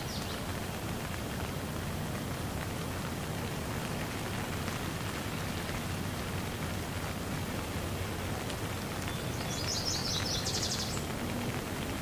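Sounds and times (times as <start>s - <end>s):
steady rain on wet ground: 0.0s - 12.0s.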